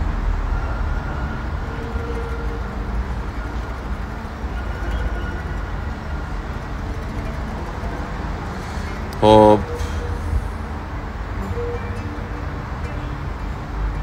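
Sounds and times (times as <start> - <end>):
low rumbling outdoor noise: 0.0 - 14.0.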